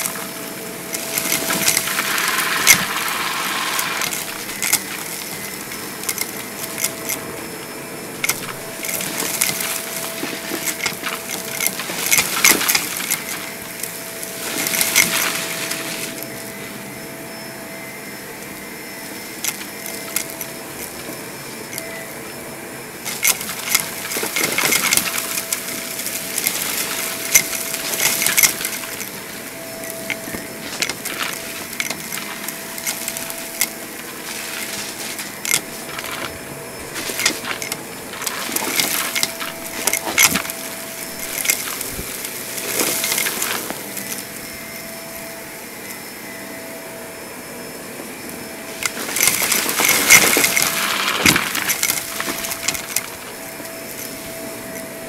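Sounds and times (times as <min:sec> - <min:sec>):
grit crunching through vacuum: 0:00.0 - 0:44.8
vacuum cleaner motor whine: 0:00.0 - 0:55.0.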